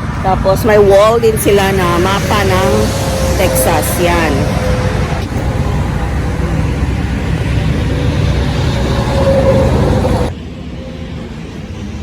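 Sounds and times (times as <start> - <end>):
vehicle engines and road traffic: 0.0 - 12.0.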